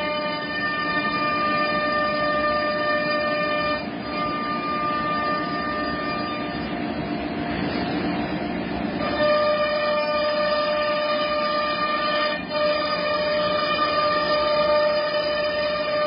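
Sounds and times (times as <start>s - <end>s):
router spindle high whine: 0.0s - 16.0s.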